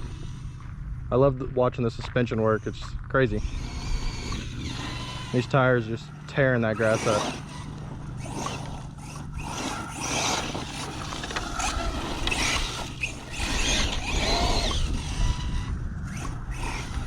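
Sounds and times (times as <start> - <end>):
electric motor whining: 0.0 - 17.0
tires churning grass: 0.0 - 17.0
drivetrain clatter: 1.8 - 17.0.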